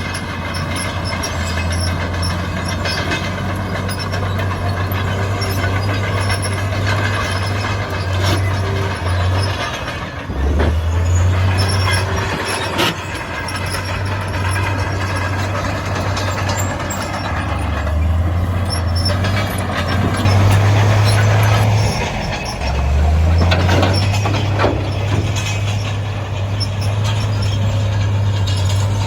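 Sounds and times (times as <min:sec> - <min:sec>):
diesel engine under load: 0:00.0 - 0:29.0
sharp metallic clanks: 0:00.0 - 0:29.0.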